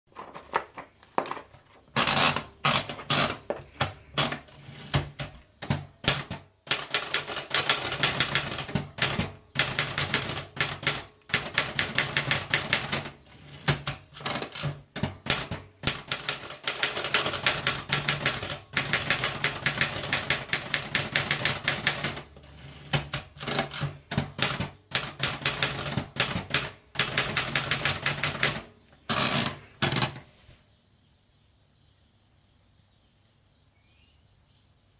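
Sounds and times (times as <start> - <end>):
manual typewriter keystrokes: 2.0 - 30.2.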